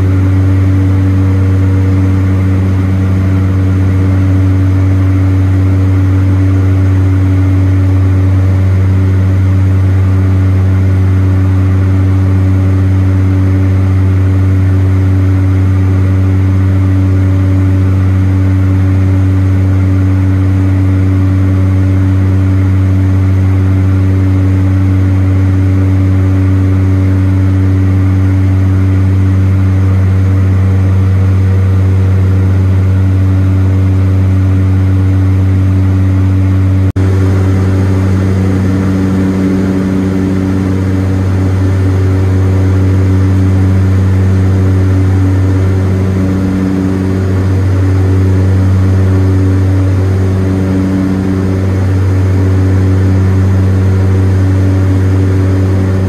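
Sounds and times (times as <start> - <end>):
turboprop engines droning in cabin: 0.0 - 56.0.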